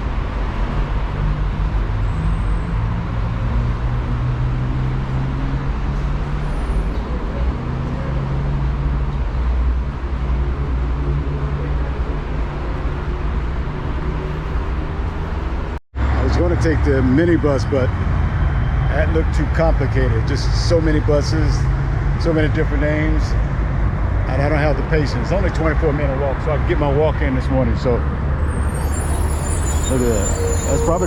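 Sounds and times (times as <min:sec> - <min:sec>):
roadway rumble: 0:00.0 - 0:31.0.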